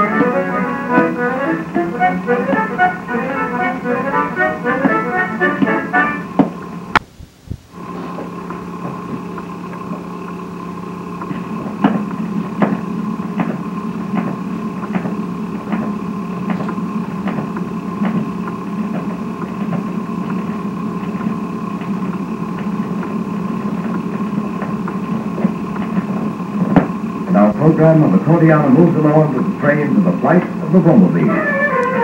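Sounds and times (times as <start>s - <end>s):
record surface noise and hum: 0.0s - 32.0s.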